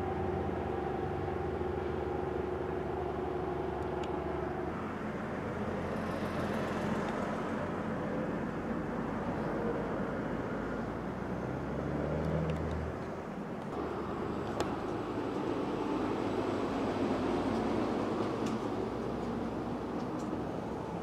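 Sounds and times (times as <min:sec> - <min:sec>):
heavy vehicle engine drone: 0:00.0 - 0:21.0
highway traffic roar: 0:00.0 - 0:21.0.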